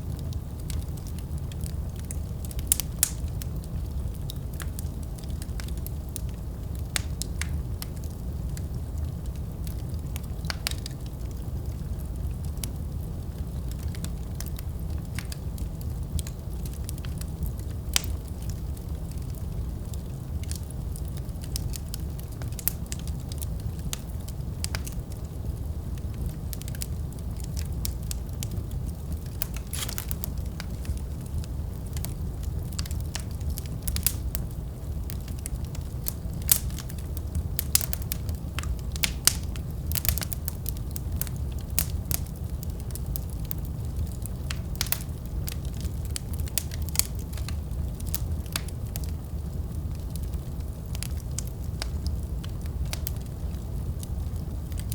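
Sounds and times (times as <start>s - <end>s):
fire crackling and popping: 0.0s - 54.9s
wood fire rumbling: 0.0s - 54.9s.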